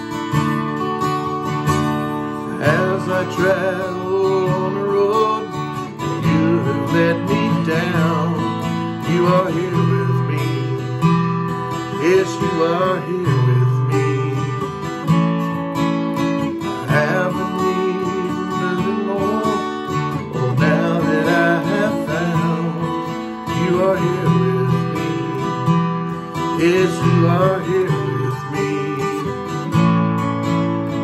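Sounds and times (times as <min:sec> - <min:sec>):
strummed acoustic guitar: 0:00.0 - 0:31.0
man singing: 0:02.2 - 0:15.2, 0:16.2 - 0:29.9.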